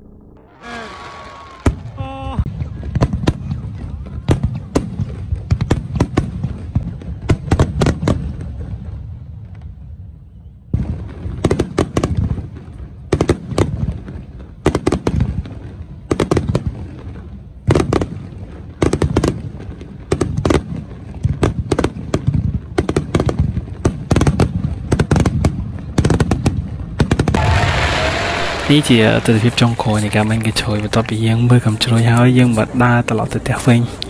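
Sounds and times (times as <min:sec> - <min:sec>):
fireworks bursting with sharp bangs: 0:00.7 - 0:09.0, 0:10.7 - 0:34.0.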